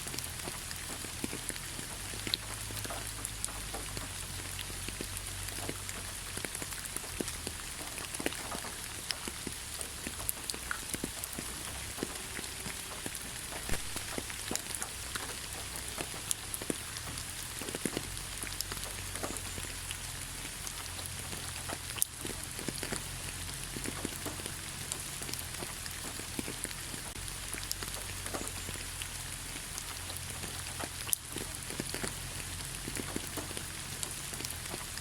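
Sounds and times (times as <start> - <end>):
light rain on leaves: 0.0 - 35.0.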